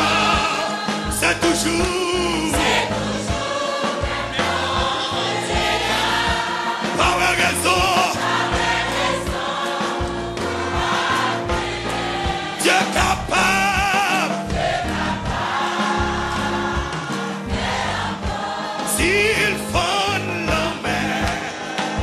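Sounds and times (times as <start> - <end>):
choir singing gospel music: 0.0 - 22.0.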